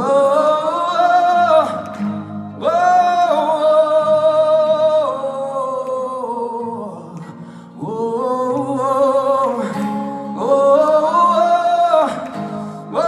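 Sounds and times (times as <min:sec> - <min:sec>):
man singing long notes: 0:00.0 - 0:13.0.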